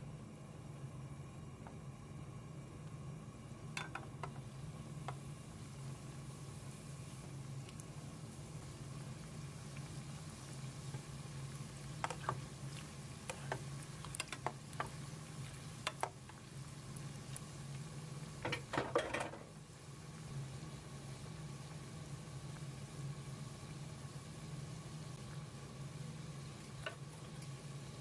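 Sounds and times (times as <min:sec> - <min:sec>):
deep-frying sizzle: 0:00.0 - 0:28.0.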